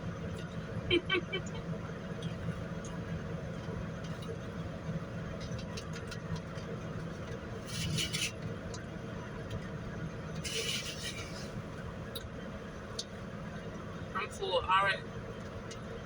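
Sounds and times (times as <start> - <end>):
low engine-like hum: 0.0 - 16.0.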